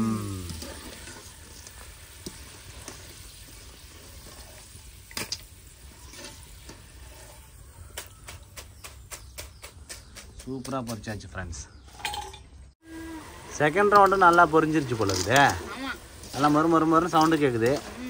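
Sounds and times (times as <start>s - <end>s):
fries sizzling in hot oil: 0.0s - 9.5s, 12.8s - 18.0s.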